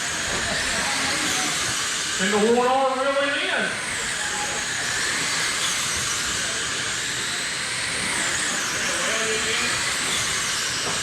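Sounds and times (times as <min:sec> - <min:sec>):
electric motors hissing: 0:00.0 - 0:11.0
rc car motors whining: 0:00.0 - 0:11.0.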